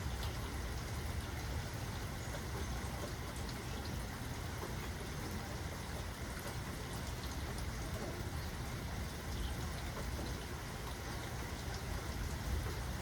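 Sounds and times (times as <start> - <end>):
individual raindrop ticks: 0.0 - 13.0
steady rain falling: 0.0 - 13.0.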